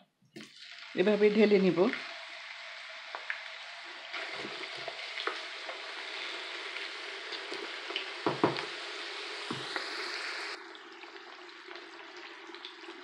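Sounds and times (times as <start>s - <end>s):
potatoes sizzling in hot oil: 0.4s - 13.0s.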